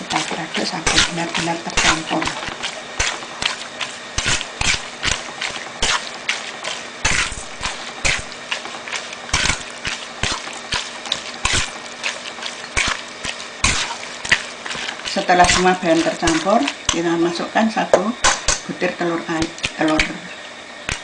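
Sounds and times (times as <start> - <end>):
hand mixing food in bowl: 0.0 - 21.0.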